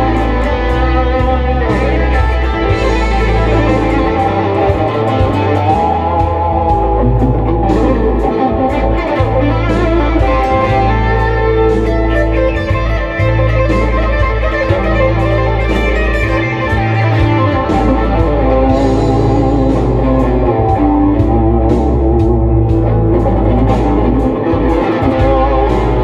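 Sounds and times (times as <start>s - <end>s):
backing track with held bass: 0.0s - 26.0s
electric guitar lead: 0.0s - 26.0s.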